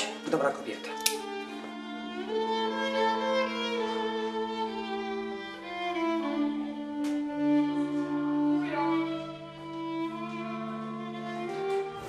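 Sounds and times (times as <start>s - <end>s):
slow violin melody: 0.0s - 12.0s.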